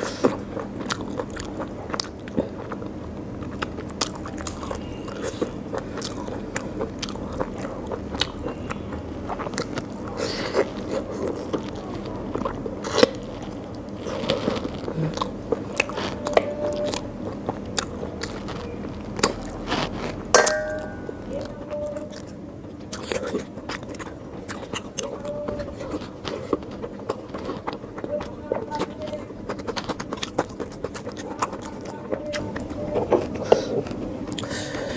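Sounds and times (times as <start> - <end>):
wet chewing and lip smacks: 0.0 - 20.3, 21.4 - 34.6.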